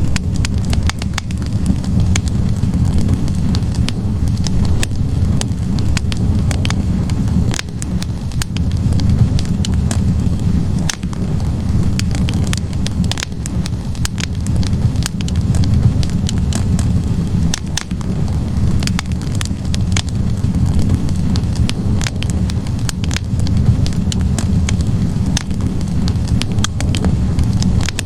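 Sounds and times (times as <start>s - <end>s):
fire roaring in fireplace: 0.0s - 28.0s
logs crackling and popping: 0.0s - 28.0s.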